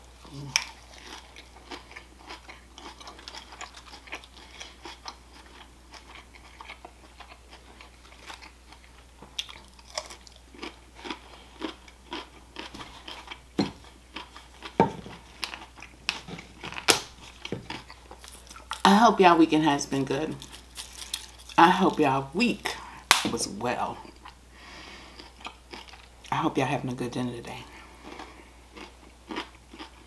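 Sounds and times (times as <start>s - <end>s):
person chewing crunchy vegetables: 0.0s - 19.0s, 20.1s - 22.1s, 24.0s - 26.3s, 27.7s - 30.0s.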